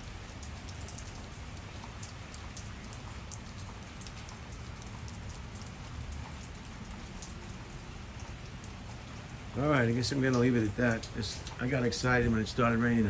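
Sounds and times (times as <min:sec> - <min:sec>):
rain drops ticking on surface: 0:00.0 - 0:13.0.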